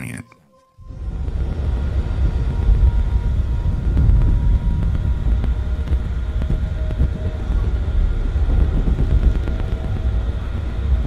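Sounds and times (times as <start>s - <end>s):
faint steady tones: 0.0s - 11.0s
loud low rumble: 0.8s - 11.0s.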